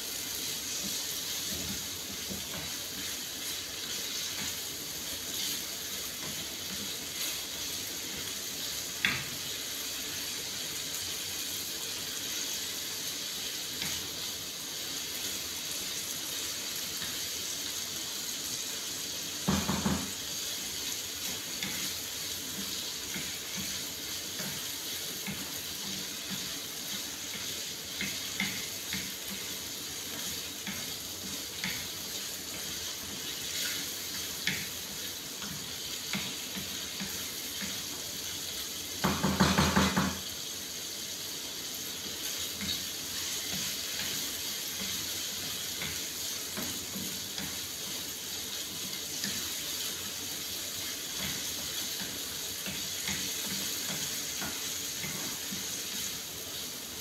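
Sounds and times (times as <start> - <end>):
chicken sizzling in a pan: 0.0 - 57.0
spatula scraping and tapping pan: 0.2 - 11.2, 12.0 - 14.2, 15.0 - 40.3, 41.7 - 56.6.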